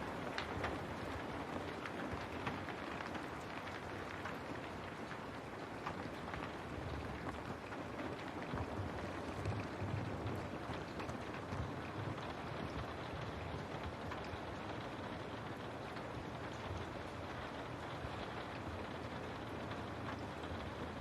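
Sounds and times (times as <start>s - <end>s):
rain on a window pane: 0.0s - 21.0s.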